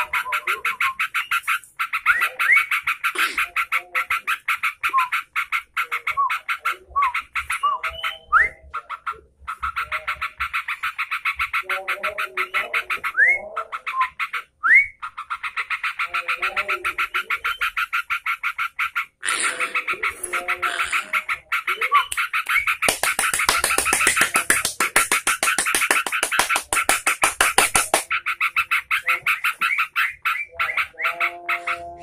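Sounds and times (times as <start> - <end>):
low bird chattering: 0.0 - 32.0.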